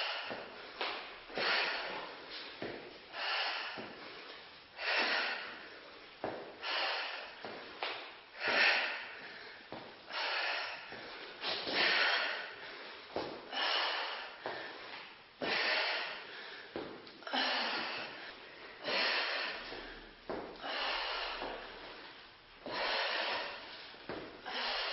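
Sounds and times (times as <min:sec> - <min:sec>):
woman breathing hard: 0:00.0 - 0:24.9.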